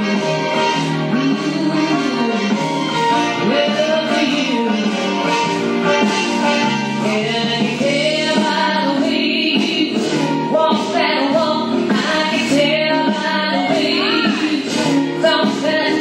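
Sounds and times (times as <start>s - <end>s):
pop song over speakers: 0.0s - 16.0s.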